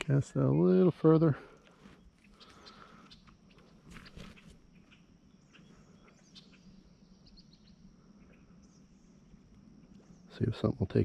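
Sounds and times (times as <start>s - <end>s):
faint bird chirps: 0.1s - 11.0s
faint high insect buzz: 0.1s - 11.0s.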